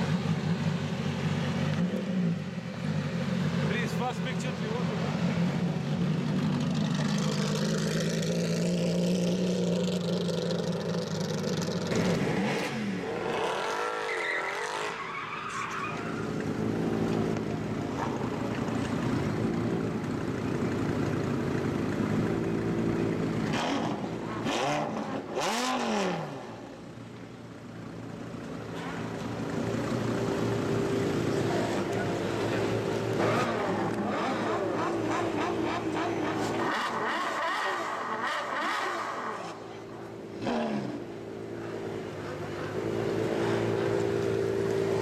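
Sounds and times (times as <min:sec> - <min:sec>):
sports car engines revving: 0:00.0 - 0:45.0.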